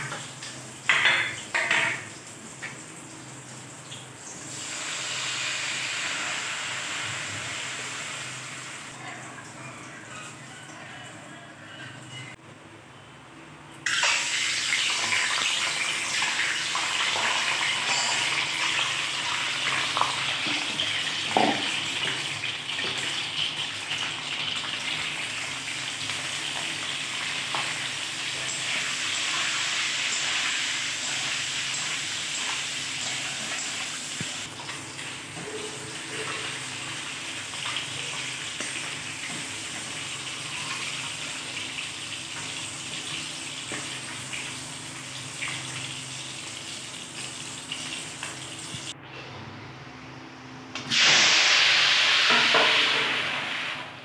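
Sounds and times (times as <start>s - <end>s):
eggs sizzling in hot oil: 0.0s - 8.9s, 13.9s - 48.9s, 50.9s - 53.9s.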